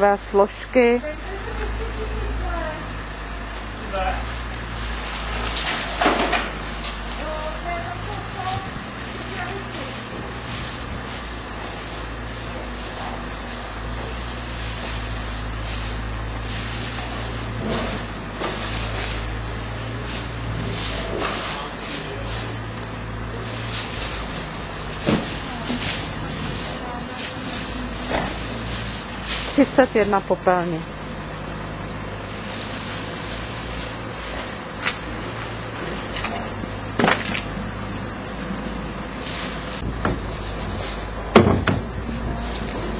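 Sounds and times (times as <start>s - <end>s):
small birds chirping: 0.0s - 41.2s
engine idling: 0.0s - 42.9s
waste rustling by hand: 0.0s - 42.9s.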